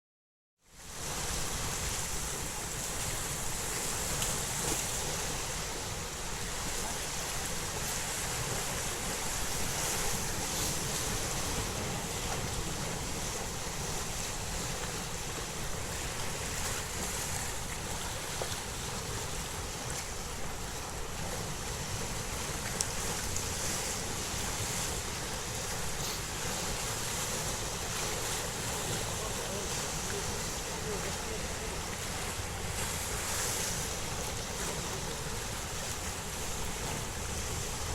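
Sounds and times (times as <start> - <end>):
sea surf washing: 0.7 - 37.9.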